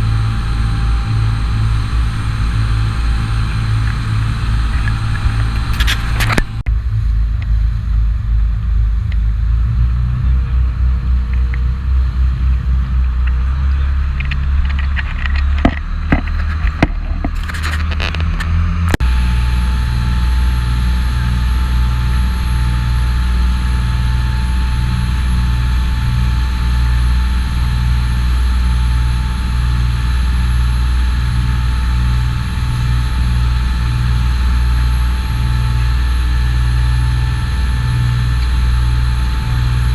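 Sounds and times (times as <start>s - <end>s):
boat engine running: 0.0s - 39.9s
thin constant hum: 0.0s - 39.9s.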